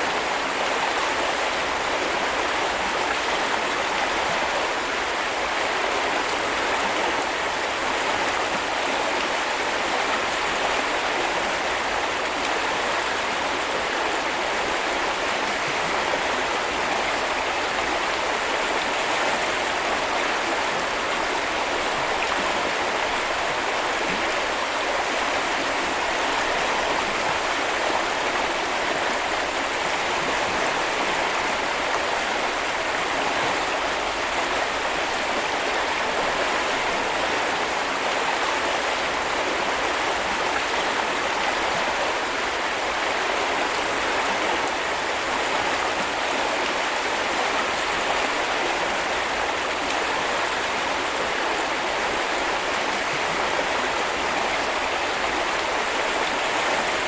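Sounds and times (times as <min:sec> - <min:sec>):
brook babbling over stones: 0:00.0 - 0:57.0.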